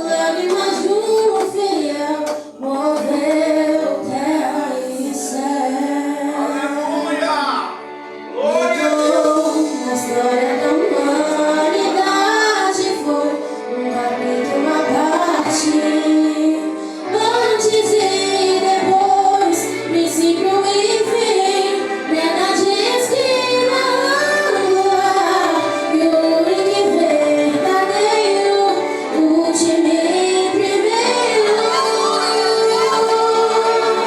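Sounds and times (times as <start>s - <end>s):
women singing worship song: 0.0s - 6.9s, 8.5s - 34.0s
instrumental accompaniment: 0.0s - 34.0s.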